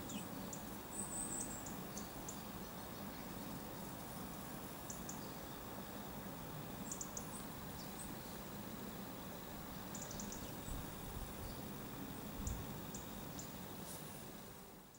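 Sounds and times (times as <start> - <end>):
low background noise: 0.0 - 14.9.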